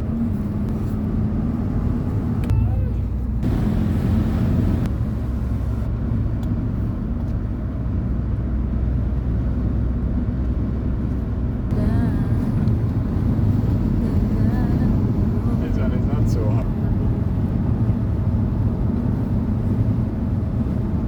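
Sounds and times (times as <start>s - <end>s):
car cabin road and engine noise: 0.0s - 21.0s.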